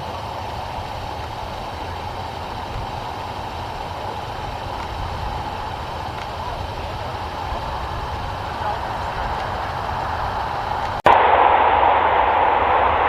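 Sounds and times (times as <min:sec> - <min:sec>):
engine rumble: 0:00.0 - 0:13.0
mid-pitched hum: 0:00.0 - 0:13.0.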